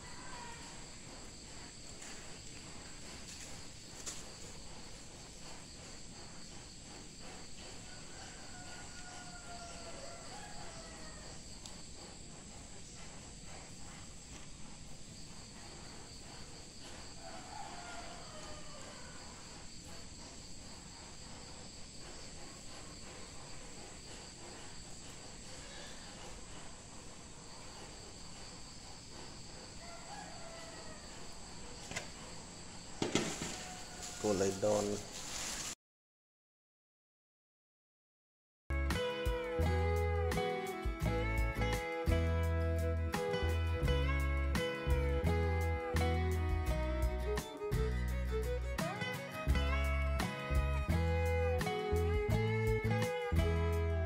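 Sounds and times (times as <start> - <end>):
insects trilling: 0.0 - 35.8, 38.9 - 54.0
outdoor background noise: 0.0 - 35.8, 38.7 - 54.0.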